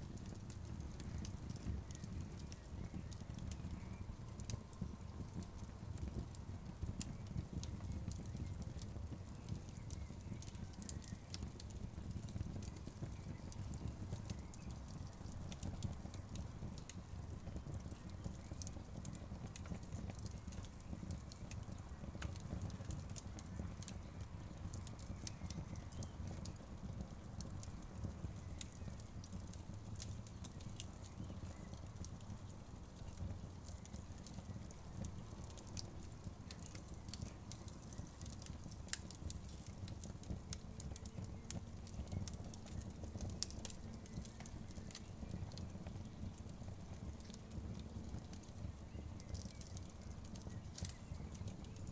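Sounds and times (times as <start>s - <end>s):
low rumble of burning logs: 0.0s - 51.9s
wood fire crackling: 0.0s - 51.9s.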